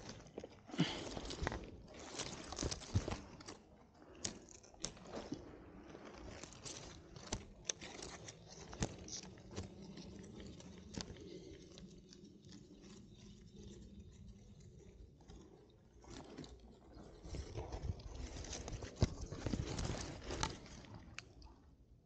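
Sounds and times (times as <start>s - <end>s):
close handling rustling: 0.0s - 21.4s.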